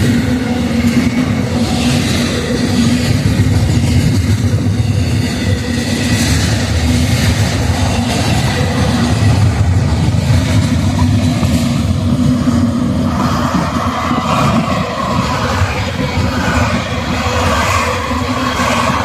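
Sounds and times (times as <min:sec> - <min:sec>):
train passing rumble: 0:00.0 - 0:19.0.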